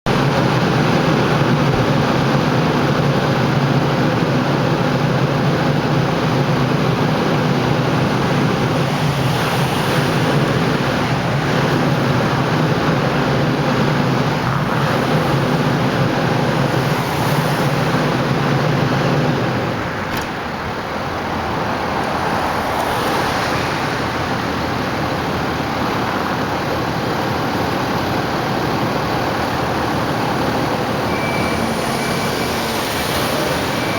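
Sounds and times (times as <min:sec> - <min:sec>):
road traffic: 0:00.0 - 0:33.9.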